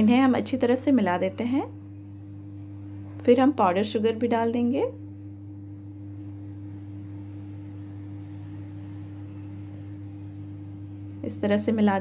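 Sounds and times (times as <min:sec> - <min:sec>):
steady higher tone: 0:00.0 - 0:12.0
steady low hum: 0:00.0 - 0:12.0.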